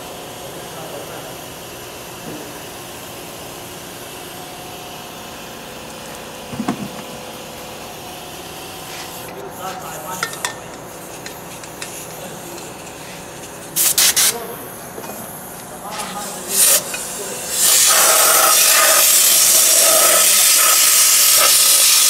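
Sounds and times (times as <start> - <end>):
steady background hum: 0.0 - 20.8.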